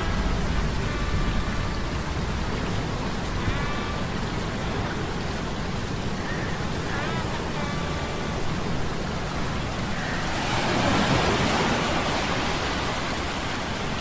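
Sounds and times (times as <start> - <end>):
rain: 0.0 - 14.0
storm surf: 0.0 - 14.0.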